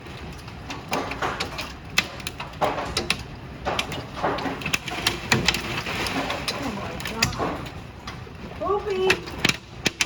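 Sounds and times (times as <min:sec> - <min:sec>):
hailstones striking hard surfaces: 0:00.3 - 0:10.0.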